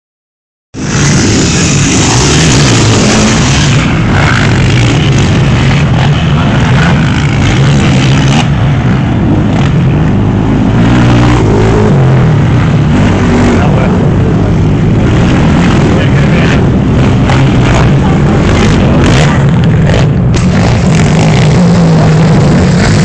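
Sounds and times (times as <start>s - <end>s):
racing engines revving: 0.8s - 23.0s.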